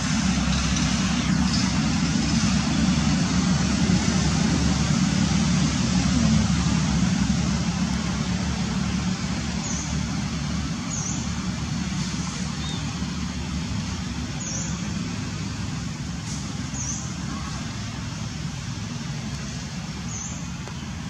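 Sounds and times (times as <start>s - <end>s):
low rumble with hiss: 0.0s - 21.0s.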